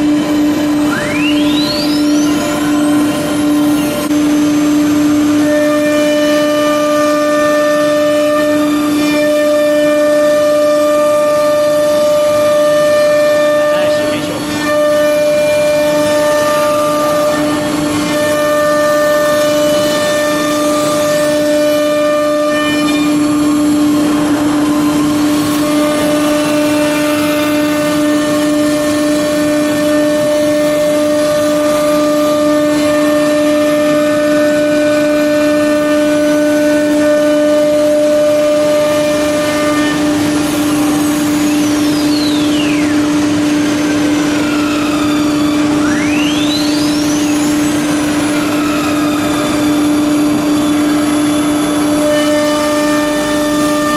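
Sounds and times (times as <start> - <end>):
cnc router spindle humming: 0.0 - 53.9
cutter milling wood panel: 0.0 - 53.9
high whine sweeping in pitch: 0.0 - 53.9.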